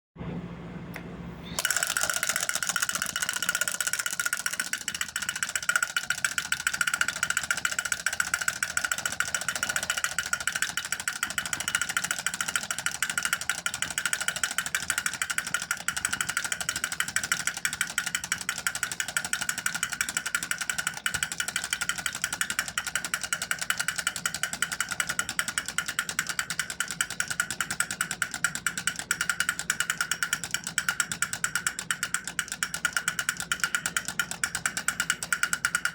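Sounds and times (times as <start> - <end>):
high mechanical hum: 0.2 - 35.9
toy drum taps rattling: 1.6 - 35.9.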